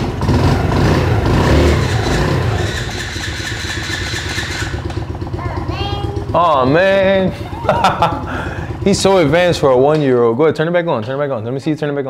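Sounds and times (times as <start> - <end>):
motorcycle engine revving and idling: 0.0 - 10.7.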